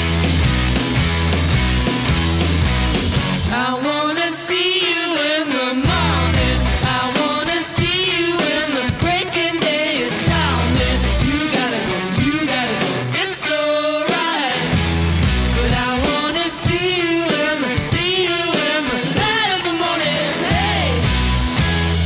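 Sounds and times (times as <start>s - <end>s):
song with vocals and band: 0.0s - 22.0s.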